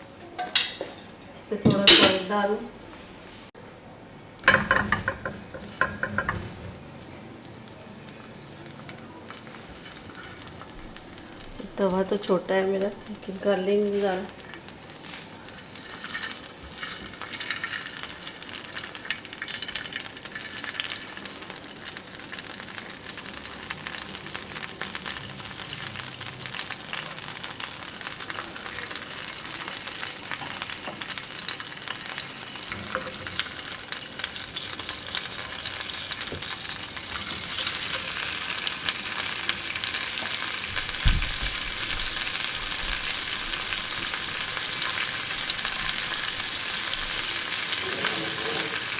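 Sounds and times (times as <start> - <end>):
chicken sizzling in oil: 7.9 - 48.9.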